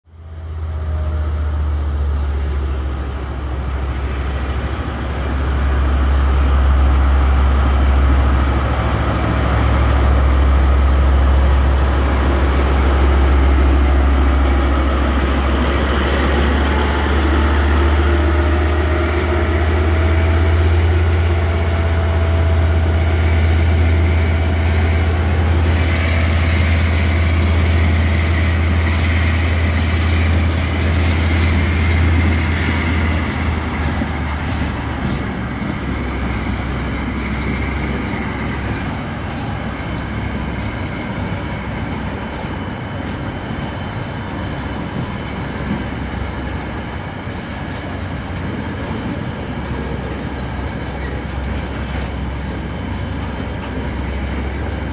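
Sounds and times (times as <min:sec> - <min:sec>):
diesel train engine rumble: 0:00.0 - 0:54.9
freight wagons rolling past: 0:00.9 - 0:54.9.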